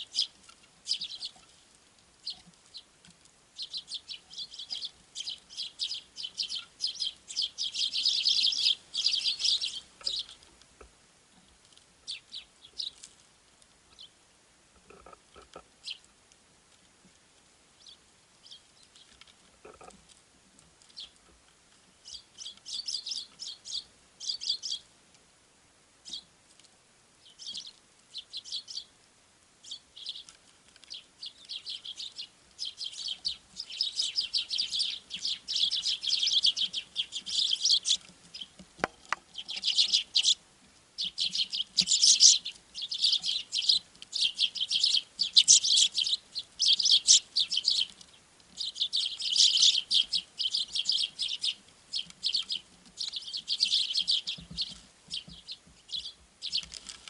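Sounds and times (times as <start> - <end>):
small birds chirping: 0.0 - 14.2, 14.8 - 16.2, 17.0 - 25.0, 26.0 - 29.0, 29.6 - 57.0.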